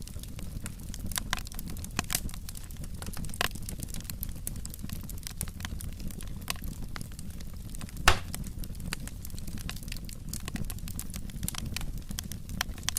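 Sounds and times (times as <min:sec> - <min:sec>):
low rumble of flames: 0:00.0 - 0:12.9
wood fire crackling and popping: 0:00.0 - 0:12.9.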